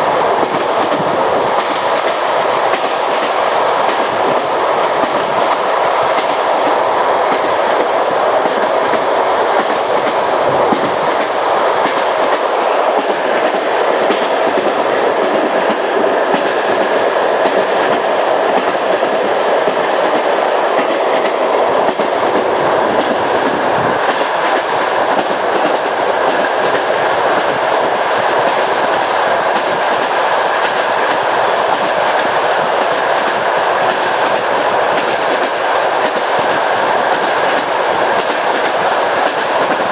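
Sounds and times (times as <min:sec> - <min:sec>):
rolling rush: 0:00.0 - 0:39.9
train wheels clicking on rails: 0:00.0 - 0:39.9.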